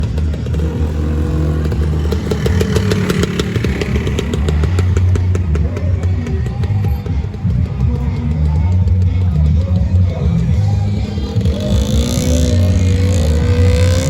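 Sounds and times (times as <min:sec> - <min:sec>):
two-stroke scooter engines running: 0:00.0 - 0:14.0.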